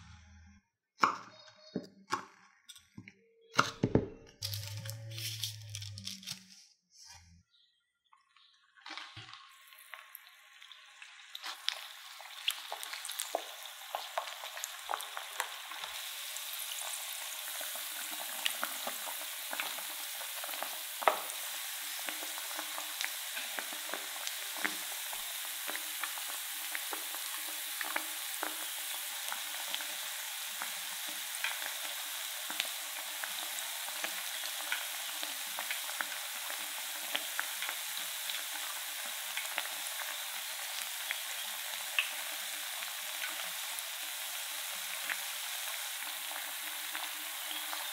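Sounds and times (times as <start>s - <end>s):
oil crackles and pops: 4.4s - 6.6s, 8.2s - 47.9s
food deep-frying in hot oil: 8.4s - 47.9s.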